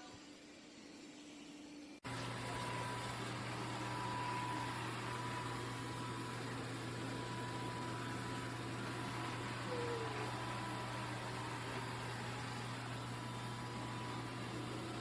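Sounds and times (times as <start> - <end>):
thin constant whine: 0.0 - 15.0
robot vacuum humming: 2.0 - 15.0.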